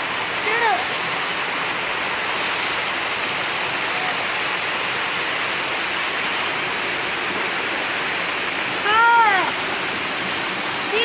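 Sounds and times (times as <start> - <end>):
waterfall rushing into pool: 0.0 - 11.0.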